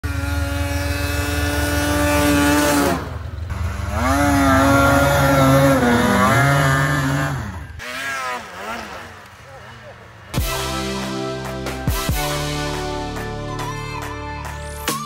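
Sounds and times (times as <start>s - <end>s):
snowmobile engine revving: 0.0s - 13.2s.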